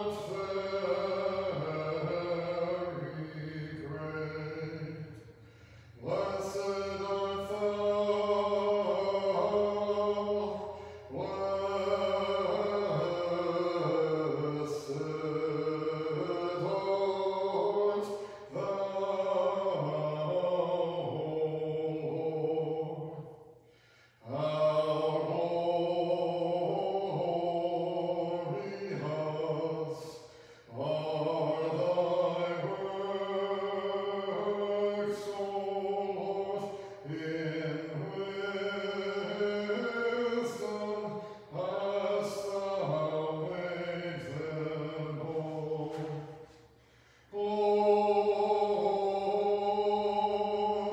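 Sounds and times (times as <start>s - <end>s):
voices chanting sustained phrases: 0.0s - 50.9s.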